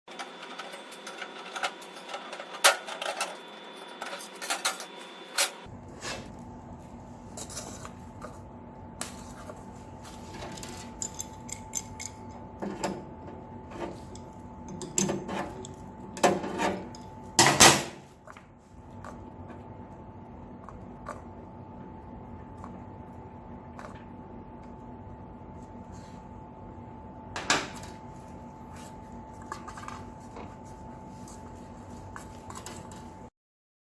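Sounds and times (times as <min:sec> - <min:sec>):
faint machine hum: 0:00.1 - 0:33.3.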